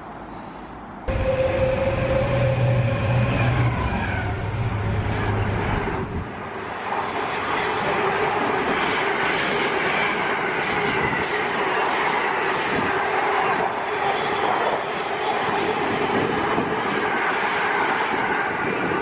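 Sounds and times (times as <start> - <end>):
train running past: 0.0 - 19.0.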